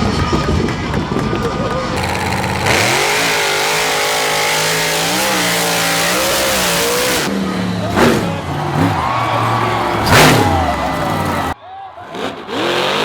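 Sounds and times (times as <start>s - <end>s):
truck engine revving: 1.8s - 13.0s.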